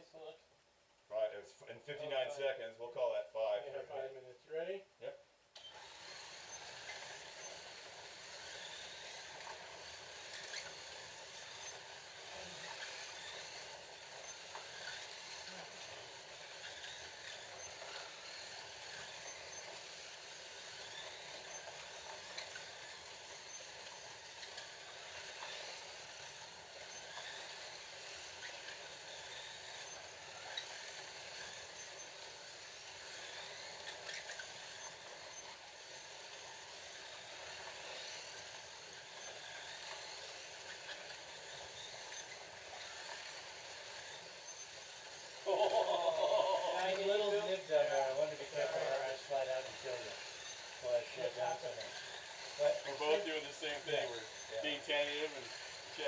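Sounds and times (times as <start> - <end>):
slot car motors whirring: 5.5 - 56.0.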